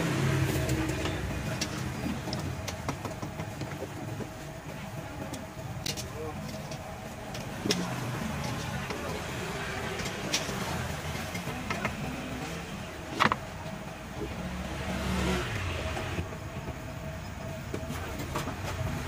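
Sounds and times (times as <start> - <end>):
passing street traffic rumble: 0.0 - 19.0.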